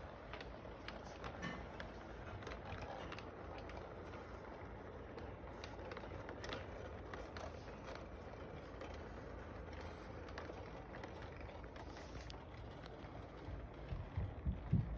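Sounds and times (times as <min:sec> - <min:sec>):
model train running: 0:00.0 - 0:14.9.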